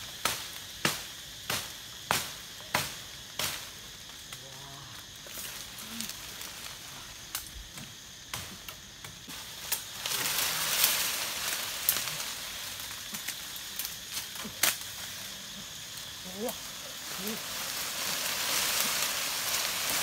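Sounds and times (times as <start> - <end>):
fire hissing: 0.0 - 20.0
fire popping: 0.0 - 20.0
wood fire crackling: 0.0 - 20.0.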